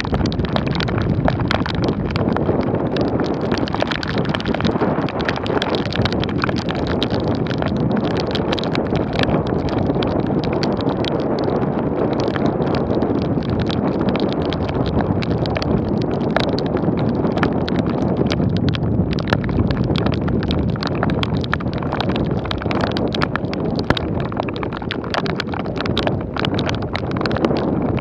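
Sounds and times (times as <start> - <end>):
wind and wet road rushing: 0.0 - 28.0.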